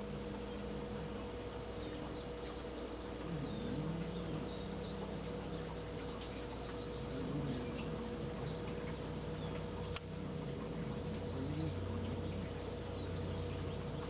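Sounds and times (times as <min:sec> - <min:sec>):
faint bird chirps: 0:00.0 - 0:14.0
low electrical hum: 0:00.0 - 0:14.0.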